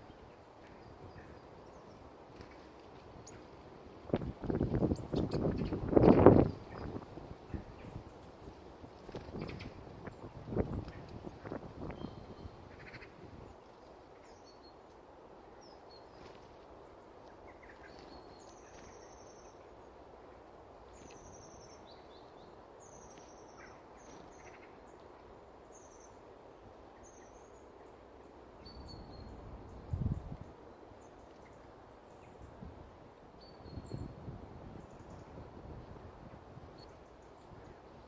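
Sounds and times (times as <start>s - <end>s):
small birds chirping: 0.0s - 15.0s, 15.6s - 20.0s, 20.8s - 26.3s, 26.9s - 38.0s.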